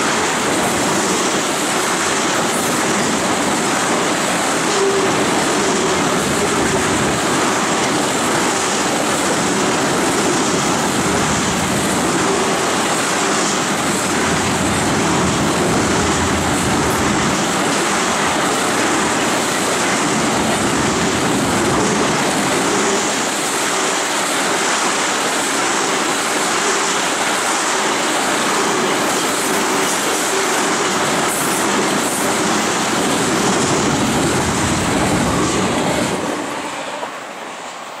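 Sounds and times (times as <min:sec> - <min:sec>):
clickety-clack over rail joints: 0:00.0 - 0:37.8
freight train wheels rushing on rails: 0:00.0 - 0:38.0.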